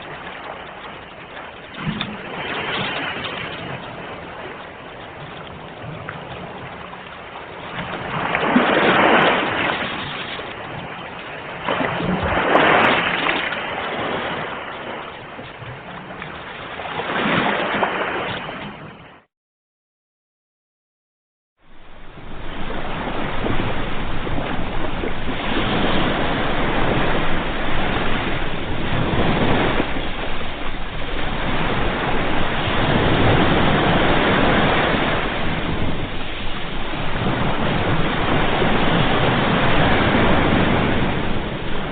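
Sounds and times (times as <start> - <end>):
ocean waves washing onto shore: 0.0 - 19.3, 21.6 - 41.9.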